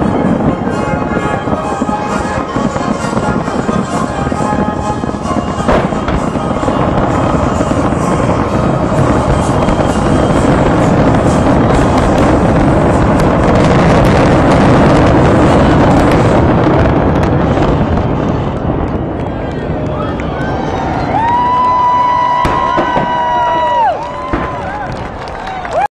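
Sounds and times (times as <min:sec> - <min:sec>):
fireworks bursting: 0:00.0 - 0:25.9
fireworks crackling: 0:00.0 - 0:25.9.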